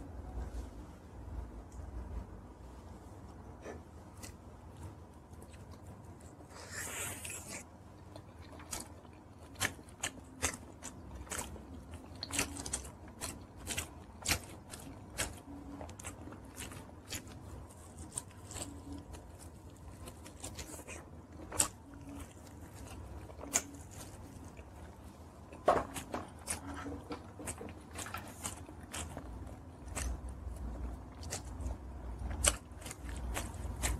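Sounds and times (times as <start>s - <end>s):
person chewing crunchy food: 3.6s - 33.9s.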